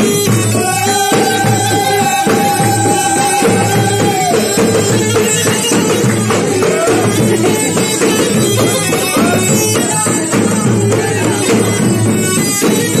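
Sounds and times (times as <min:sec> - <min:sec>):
bagpipe melody: 0:00.0 - 0:13.0
drum beats: 0:00.0 - 0:13.0.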